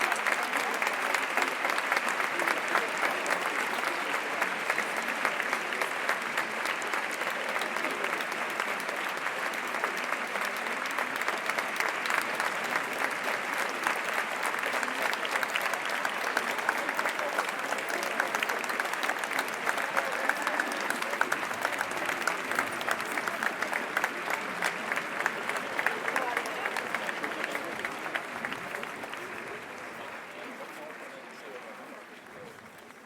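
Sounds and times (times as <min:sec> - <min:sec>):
crowd applauding: 0:00.0 - 0:33.0.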